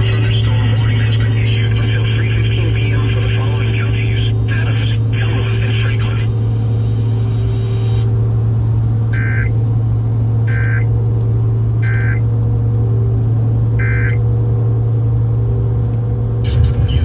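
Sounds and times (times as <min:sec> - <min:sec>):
car cabin and road noise: 0:00.0 - 0:17.0.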